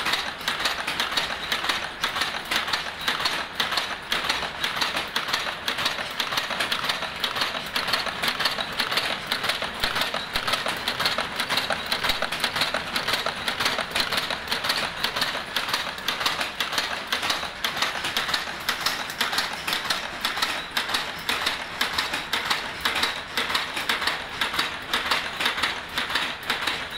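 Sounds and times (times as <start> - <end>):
wire-forming machine metallic clatter: 0.0 - 26.9.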